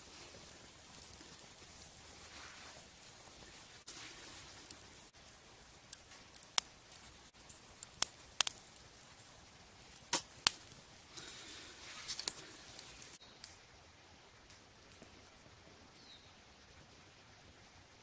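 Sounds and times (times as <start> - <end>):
twig fire crackling: 0.0 - 13.7, 14.3 - 15.6.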